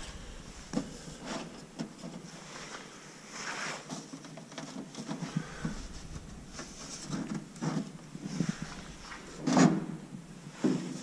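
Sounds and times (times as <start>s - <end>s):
scraping rustle: 0.0s - 11.0s.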